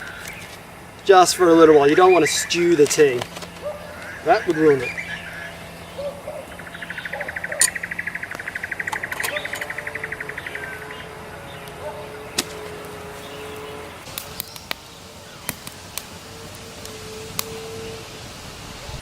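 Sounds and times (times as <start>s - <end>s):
campfire popping and cracking: 0.0s - 19.0s
fast trilling call: 0.0s - 19.0s.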